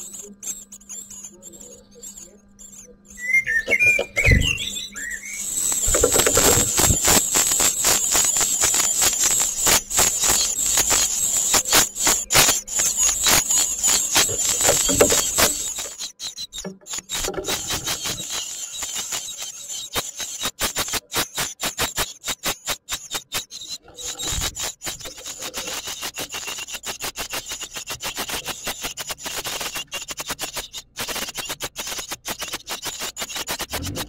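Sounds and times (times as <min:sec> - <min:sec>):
nestlings begging calls: 0:00.0 - 0:34.0.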